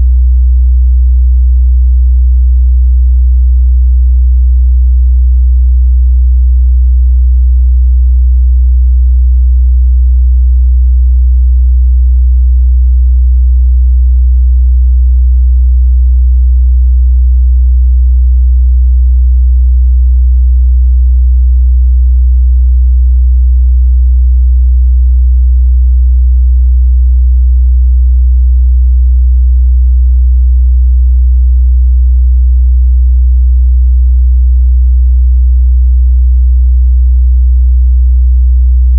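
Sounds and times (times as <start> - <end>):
low sine test tone: 0.0 - 38.9.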